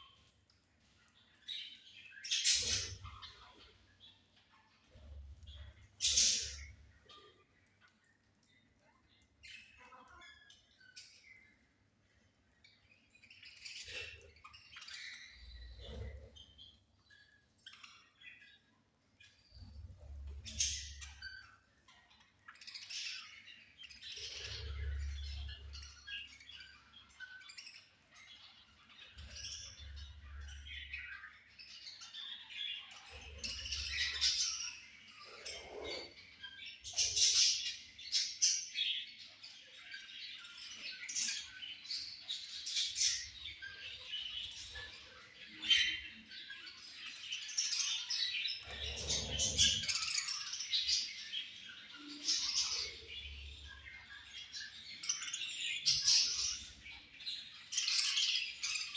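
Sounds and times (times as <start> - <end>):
budgerigars chirping and chattering: 0.0 - 11.8, 12.7 - 58.9.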